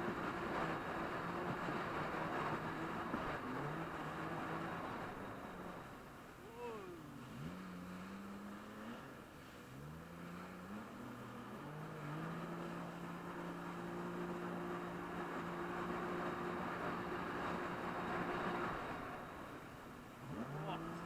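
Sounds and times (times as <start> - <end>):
jet ski engine revving: 0.0 - 21.0
water and wind rushing: 0.0 - 21.0.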